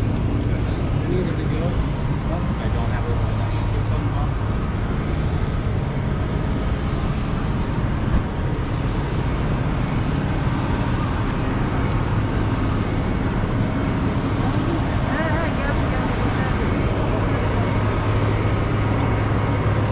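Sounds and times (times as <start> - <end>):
city street traffic rumble: 0.0 - 19.9.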